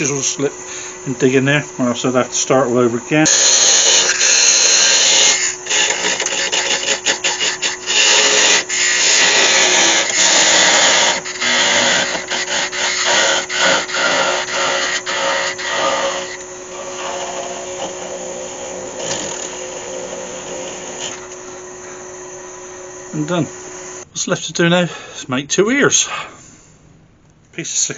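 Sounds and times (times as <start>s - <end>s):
tool scraping wood on lathe: 0.0s - 24.0s
lathe humming: 0.0s - 24.1s.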